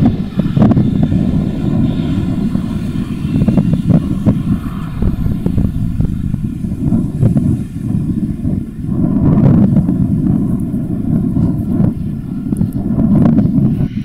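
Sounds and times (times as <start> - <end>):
jet engines rumbling overhead: 0.0 - 14.0.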